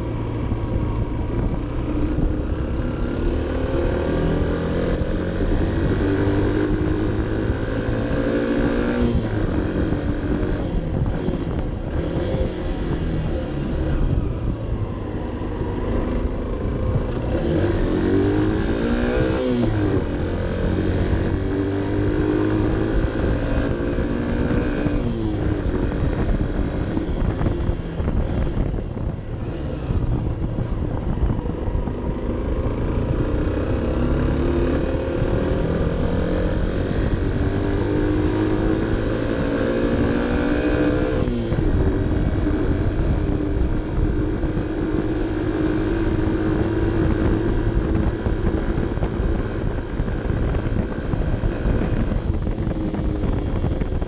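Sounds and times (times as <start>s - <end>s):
motorcycle engine revving with gear shifts: 0.0s - 54.0s.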